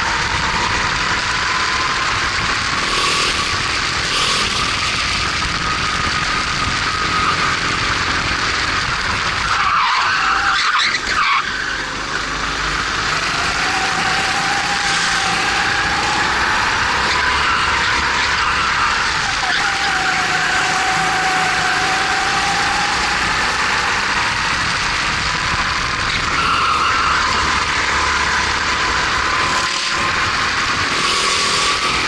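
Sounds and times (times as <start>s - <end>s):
kart engine running hard: 0.0s - 32.0s
rush of noise: 0.0s - 32.0s.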